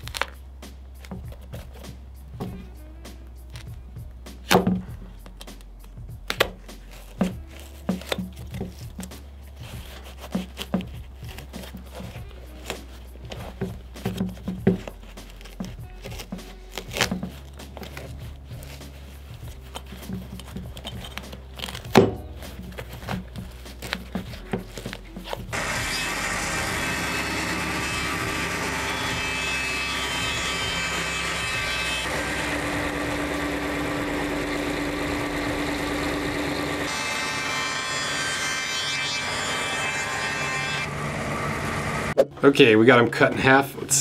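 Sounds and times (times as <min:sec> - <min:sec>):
background music: 0:00.0 - 0:40.8.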